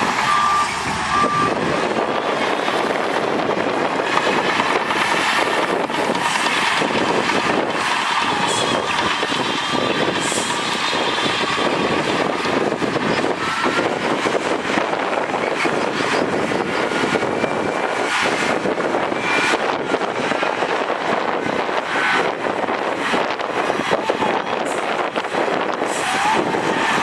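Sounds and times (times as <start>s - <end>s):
heavy machinery running: 0.0s - 27.0s.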